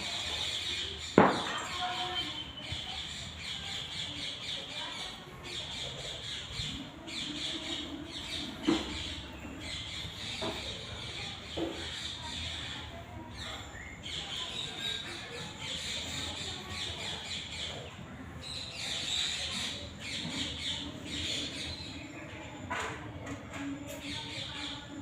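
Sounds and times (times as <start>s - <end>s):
birds squawking and chattering: 0.0s - 22.7s, 23.7s - 25.0s.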